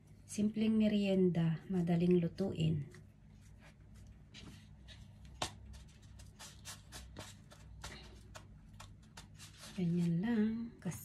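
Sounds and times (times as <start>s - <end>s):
hands working sticky dough: 1.7s - 11.0s.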